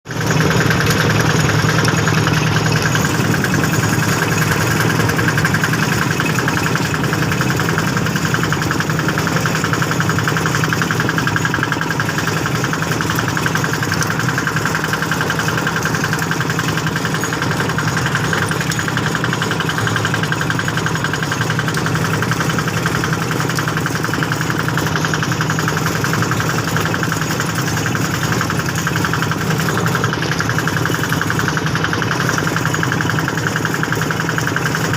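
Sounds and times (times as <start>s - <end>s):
small engine running steadily: 0.0s - 34.9s.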